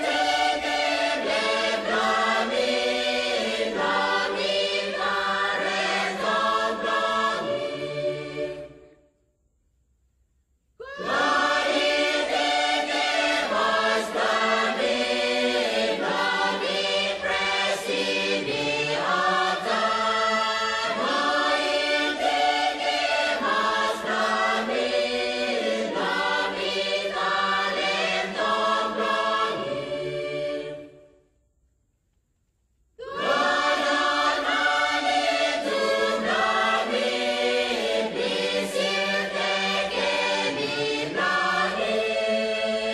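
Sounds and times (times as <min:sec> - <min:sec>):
choir singing in harmony: 0:00.0 - 0:09.2, 0:10.8 - 0:31.3, 0:33.0 - 0:42.9.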